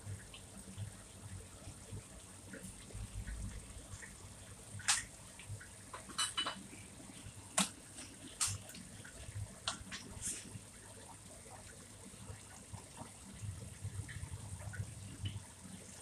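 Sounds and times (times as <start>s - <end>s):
sauce bubbling in a wok: 0.0s - 16.0s.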